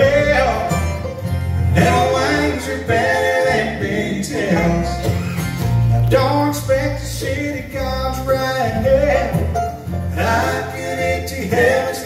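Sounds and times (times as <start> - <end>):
acoustic guitar: 0.0 - 12.0
banjo: 0.0 - 12.0
mandolin: 0.0 - 12.0
upright bass: 0.0 - 12.0.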